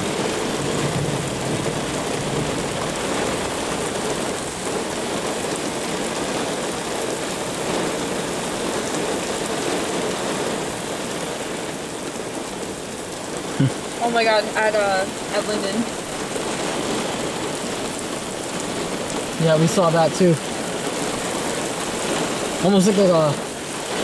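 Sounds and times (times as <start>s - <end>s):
heavy rain pouring on pavement: 0.0s - 24.0s.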